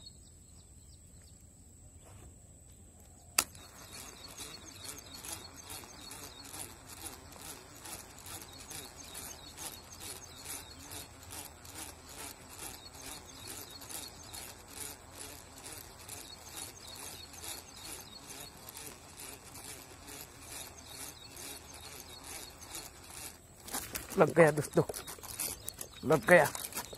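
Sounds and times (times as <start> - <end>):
fishing reel gears rubbing: 3.4 - 26.9
thin steady high whine: 3.4 - 26.9.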